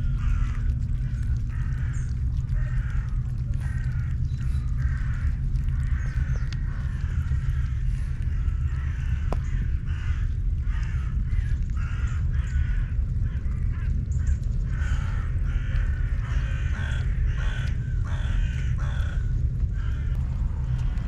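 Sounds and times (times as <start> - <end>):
birds calling: 0.0 - 21.0
low rumble: 0.0 - 21.0.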